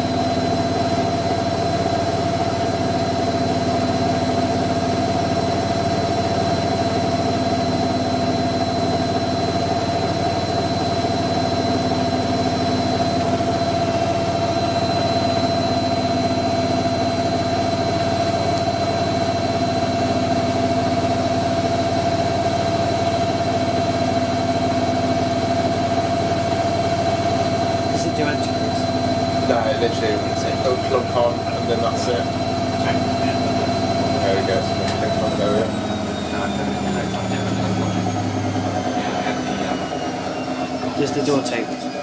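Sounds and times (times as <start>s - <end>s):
washing machine spinning: 0.0s - 42.0s.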